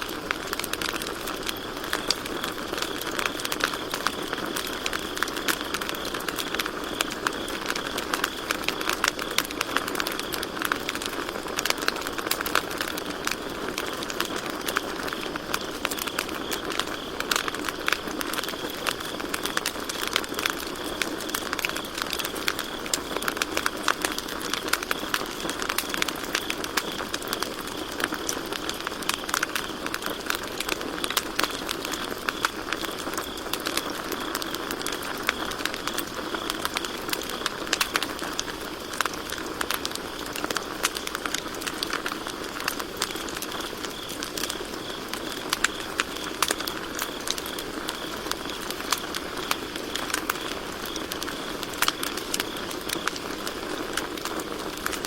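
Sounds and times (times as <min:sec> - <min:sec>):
campfire crackling and popping: 0:00.0 - 0:55.0
crickets chirping: 0:00.0 - 0:55.0.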